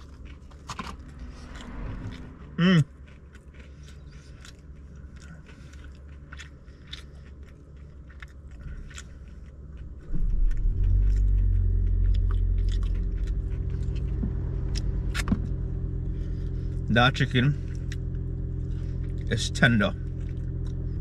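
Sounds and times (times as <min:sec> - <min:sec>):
crunchy chewing: 0:00.0 - 0:21.0
low engine rumble: 0:00.0 - 0:21.0.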